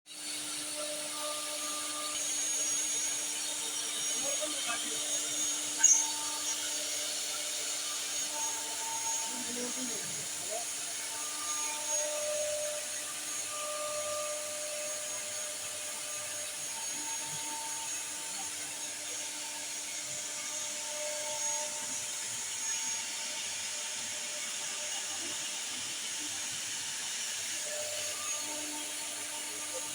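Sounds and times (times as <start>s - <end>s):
cnc spindle high whine: 0.2s - 29.9s.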